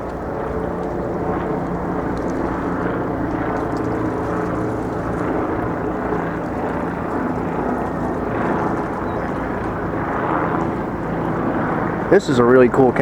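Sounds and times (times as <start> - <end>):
low engine drone: 0.0 - 13.0
outdoor noise: 0.0 - 13.0.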